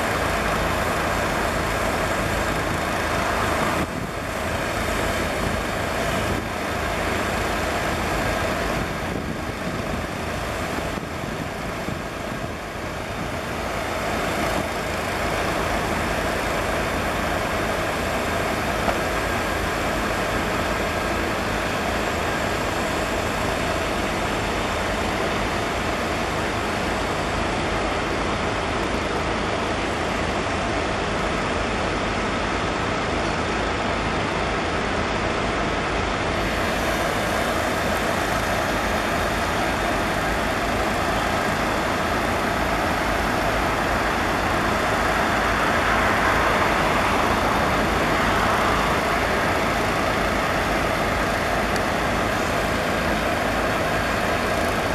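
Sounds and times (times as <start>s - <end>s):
diesel locomotive engines droning: 0.0s - 54.9s.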